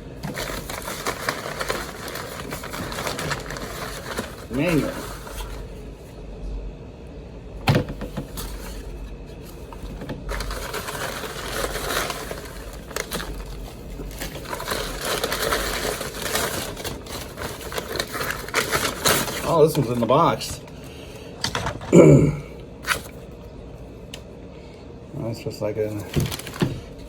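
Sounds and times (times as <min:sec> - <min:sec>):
paper and packing rustling: 0:00.0 - 0:06.2, 0:07.7 - 0:21.8, 0:22.8 - 0:23.4, 0:25.6 - 0:27.0.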